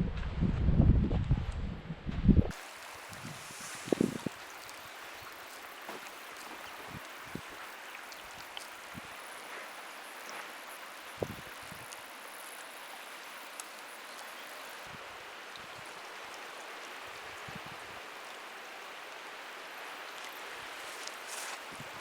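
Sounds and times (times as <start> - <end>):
stream water running: 2.5 - 22.0.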